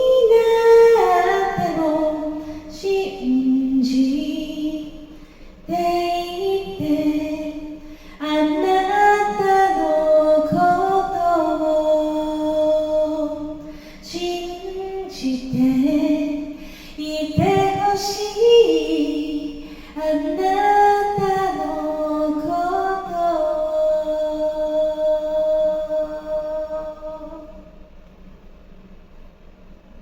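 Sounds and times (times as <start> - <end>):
woman singing a cappella: 0.0 - 27.8.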